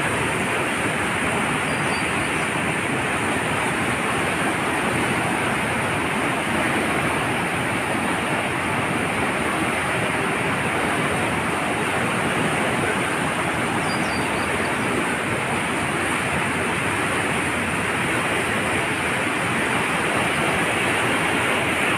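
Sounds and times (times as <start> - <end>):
water rushing over a weir: 0.0 - 21.9.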